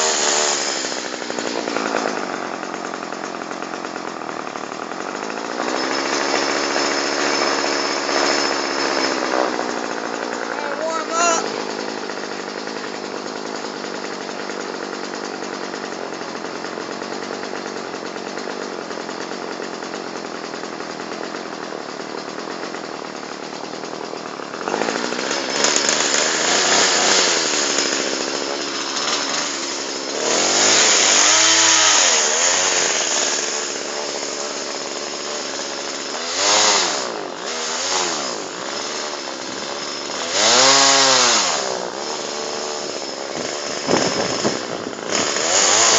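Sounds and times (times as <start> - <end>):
chainsaw cutting wood: 0.0 - 45.9
chainsaw running: 0.0 - 45.9.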